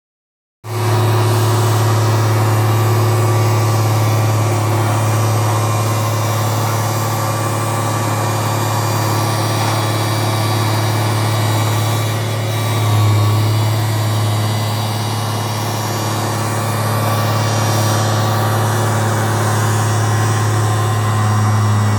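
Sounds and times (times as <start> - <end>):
engine idling: 0.7 - 21.9.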